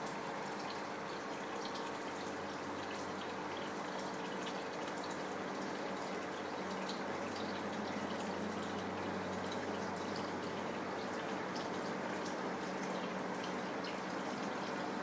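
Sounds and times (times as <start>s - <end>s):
low pump hum: 0.0s - 15.0s.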